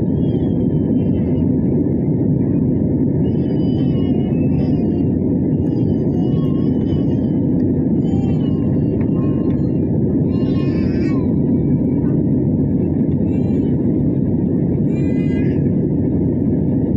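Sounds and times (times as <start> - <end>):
airliner cabin engine noise: 0.0 - 16.9.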